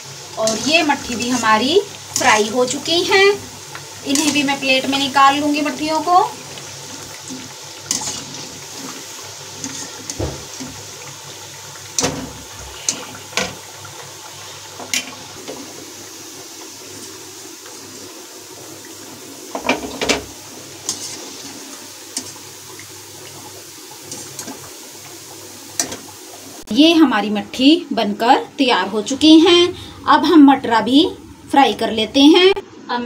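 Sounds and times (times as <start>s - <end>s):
oil sizzling while deep-frying: 0.0s - 33.0s.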